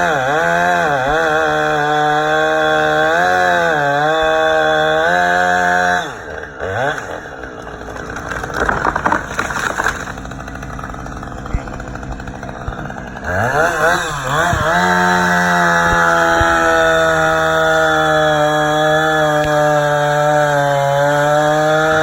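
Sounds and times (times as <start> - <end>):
chainsaw cutting tree: 0.0 - 22.0.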